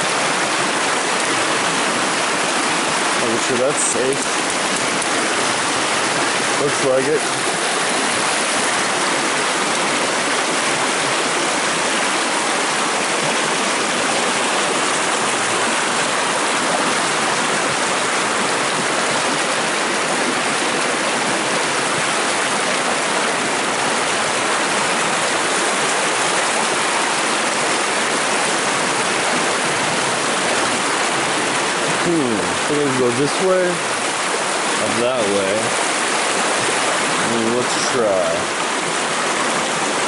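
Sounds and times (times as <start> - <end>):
creek rushing over rocks: 0.0 - 40.0.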